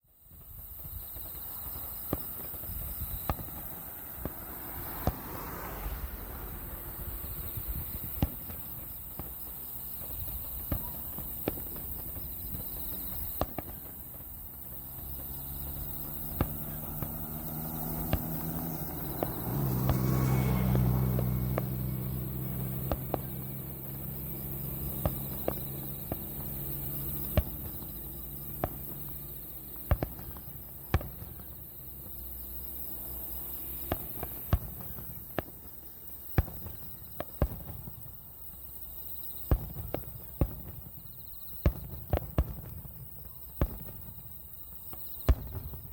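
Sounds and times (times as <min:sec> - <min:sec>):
fireworks shells bursting: 0:00.2 - 0:38.6.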